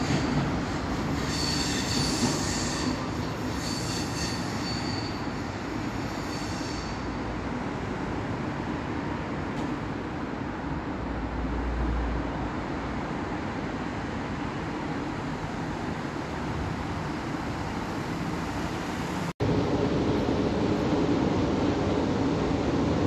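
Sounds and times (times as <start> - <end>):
electric train rolling slowly: 0.0 - 23.0.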